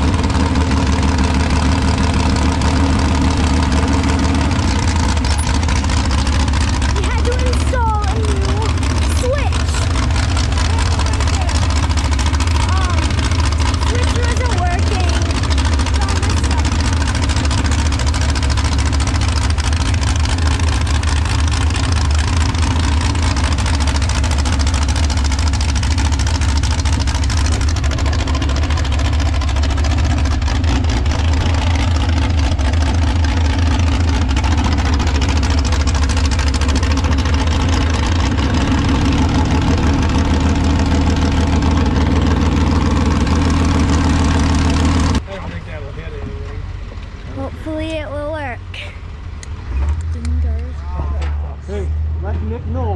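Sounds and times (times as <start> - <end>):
tractor engine idling: 0.0 - 52.9.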